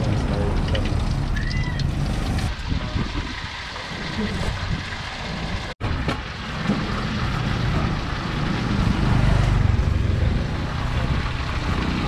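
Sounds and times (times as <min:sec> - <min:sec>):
street traffic: 0:00.0 - 0:12.0
vehicle engine rumble: 0:00.0 - 0:12.0.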